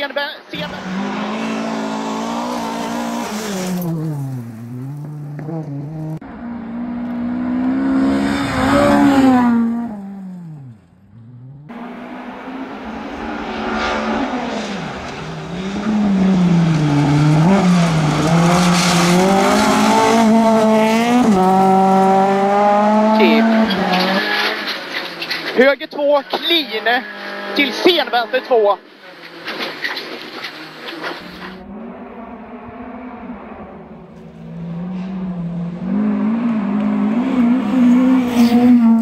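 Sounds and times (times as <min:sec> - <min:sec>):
rally car engine revving: 0:00.5 - 0:25.6, 0:26.2 - 0:39.0.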